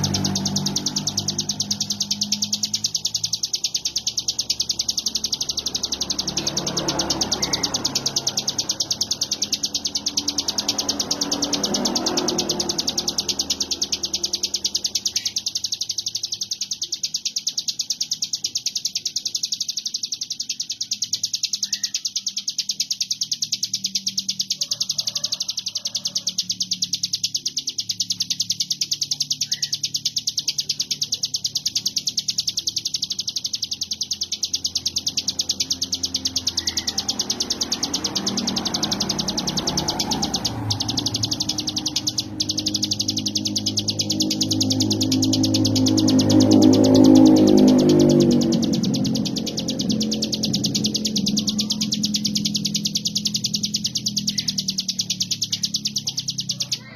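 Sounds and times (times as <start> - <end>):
bird singing high buzzing trill: 0.0 - 56.9.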